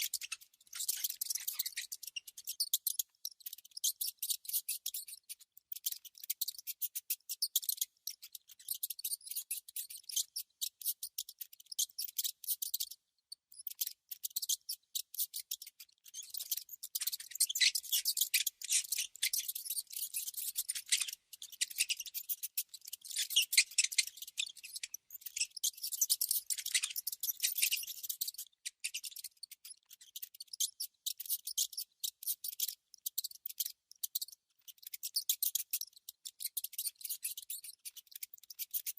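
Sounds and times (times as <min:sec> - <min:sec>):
mouse scratchy clicks: 0:00.0 - 0:38.9.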